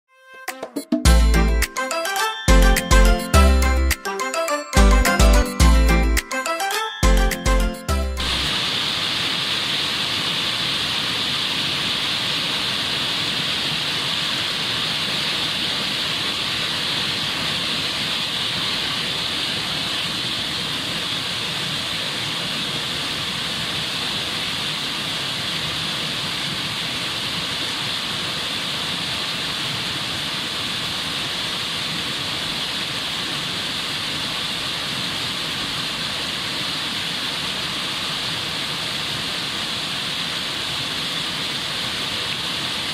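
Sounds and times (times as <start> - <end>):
stream rushing over boulders: 8.2 - 42.9.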